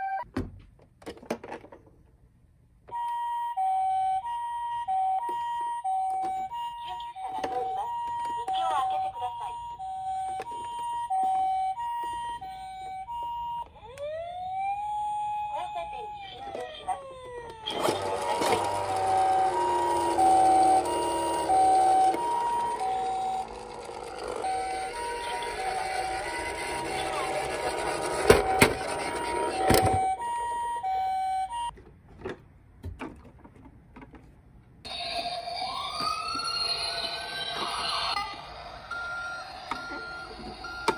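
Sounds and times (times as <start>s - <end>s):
toy ambulance siren: 2.9s - 31.8s, 34.9s - 40.9s.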